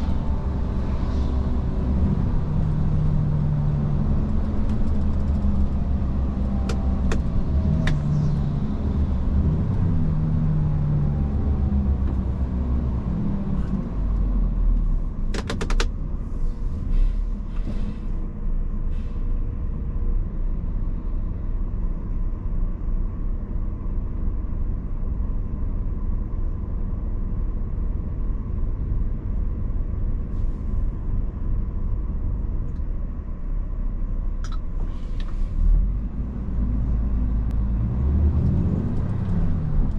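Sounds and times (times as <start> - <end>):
diesel truck engine: 0.0 - 39.9
low road rumble: 0.0 - 39.9.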